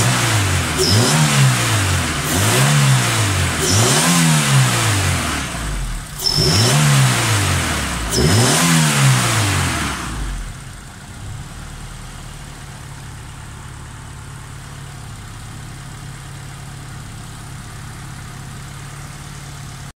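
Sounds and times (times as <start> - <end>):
car engine revving and idling: 0.0 - 19.9.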